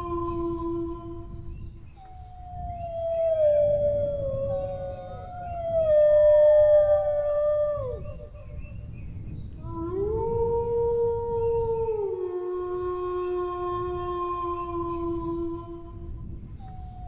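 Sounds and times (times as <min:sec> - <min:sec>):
dogs howling: 0:00.0 - 0:01.0, 0:02.4 - 0:08.7, 0:09.6 - 0:17.0
steady low rumble: 0:00.0 - 0:17.0.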